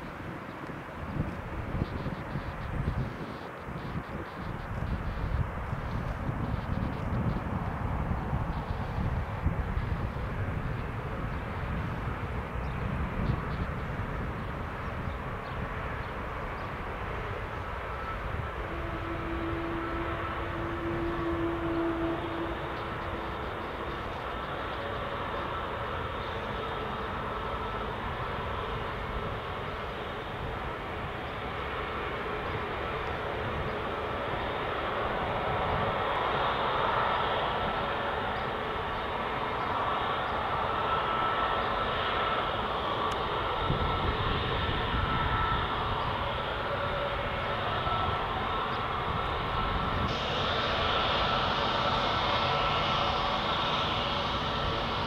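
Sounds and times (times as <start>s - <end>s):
jet engines running up: 0.0s - 55.0s.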